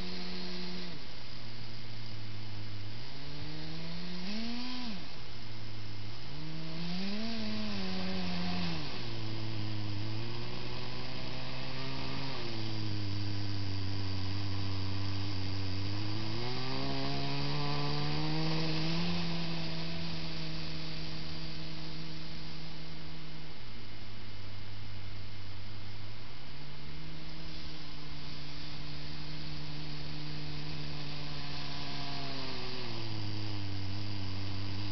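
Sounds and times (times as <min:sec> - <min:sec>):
electric motor and gears whining: 0:00.0 - 0:23.8, 0:26.8 - 0:34.9.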